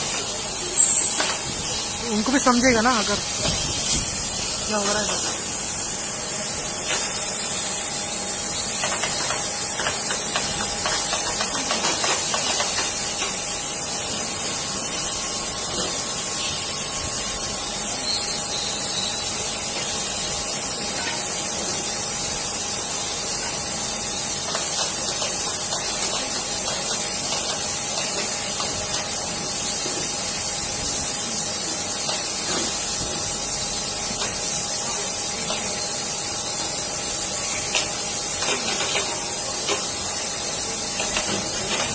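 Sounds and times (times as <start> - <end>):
steady hiss: 0.0 - 41.9.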